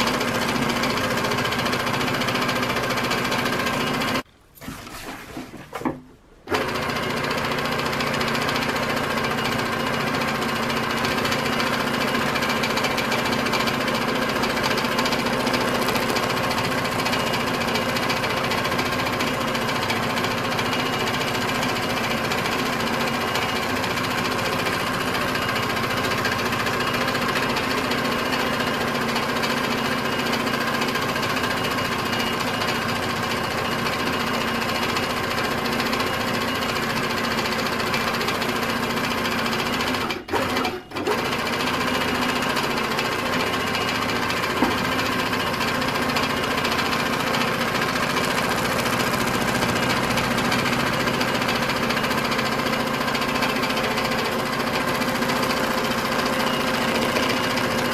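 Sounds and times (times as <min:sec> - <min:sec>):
sewing machine running: 0:00.0 - 0:04.2, 0:06.5 - 0:57.9.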